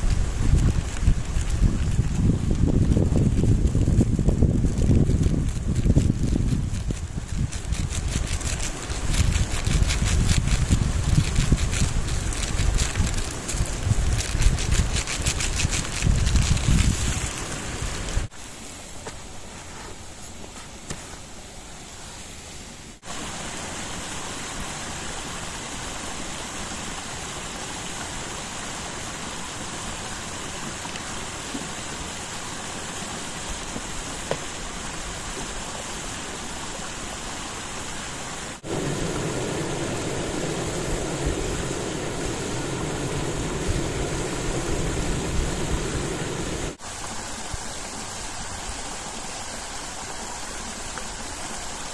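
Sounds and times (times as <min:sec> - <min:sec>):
mountain stream rushing: 0:00.0 - 0:51.9.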